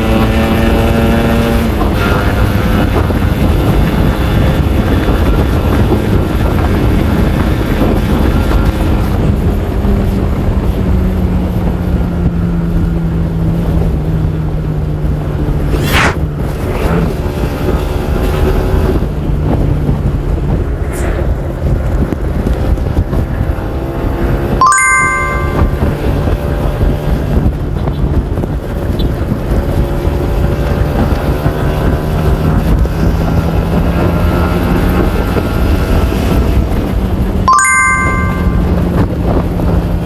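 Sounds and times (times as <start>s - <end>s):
wind rumbling on microphone: 0.0s - 24.6s, 25.4s - 37.5s.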